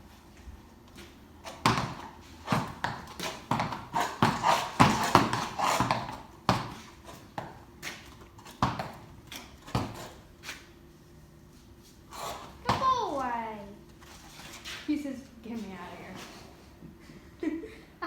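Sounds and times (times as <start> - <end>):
horse hooves on hard floor: 0.3 - 10.6, 11.6 - 17.0.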